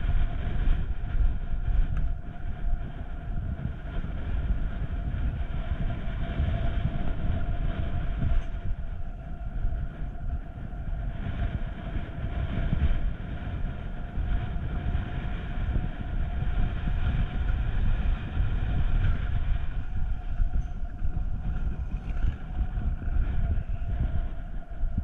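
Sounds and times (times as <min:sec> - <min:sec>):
faint steady whine: 0:00.0 - 0:25.0
wheels rumbling on rails: 0:00.0 - 0:25.0.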